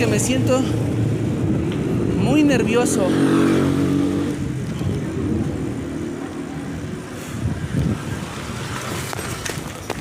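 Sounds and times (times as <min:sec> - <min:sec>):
passing vehicle engine: 0:00.0 - 0:09.8
road and wind noise: 0:00.0 - 0:10.0.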